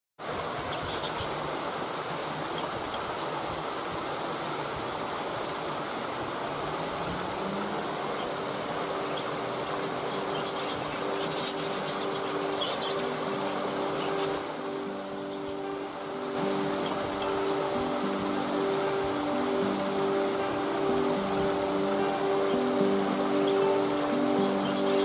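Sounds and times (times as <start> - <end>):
waterfall rushing: 0.2 - 25.0
soft sustained music notes: 0.8 - 25.0.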